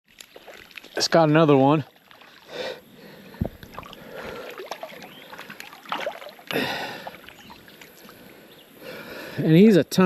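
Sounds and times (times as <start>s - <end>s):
river water splashing: 0.1s - 8.9s.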